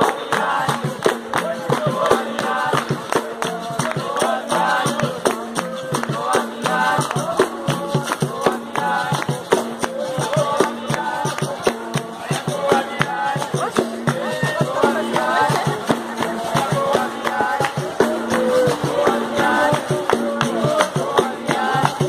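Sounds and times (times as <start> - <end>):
group singing a chorus: 0.0 - 22.0
rhythmic hand clapping: 0.0 - 22.0.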